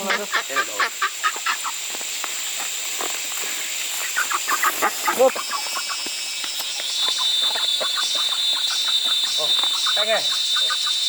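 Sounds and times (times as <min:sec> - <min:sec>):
poultry clucking calls: 0:00.0 - 0:11.0.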